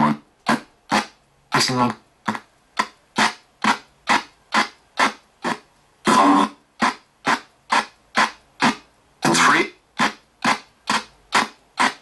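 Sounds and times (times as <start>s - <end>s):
radio static bursts: 0.0s - 12.0s.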